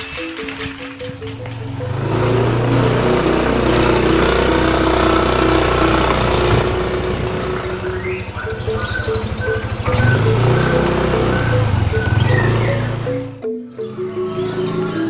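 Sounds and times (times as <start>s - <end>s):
background music: 0.0s - 15.0s
vehicle engine running: 1.0s - 15.0s.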